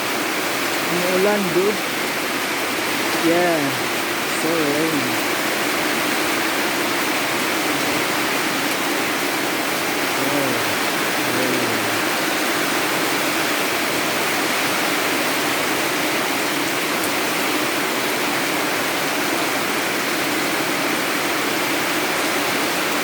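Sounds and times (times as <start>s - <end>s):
rain falling steadily: 0.0s - 23.0s.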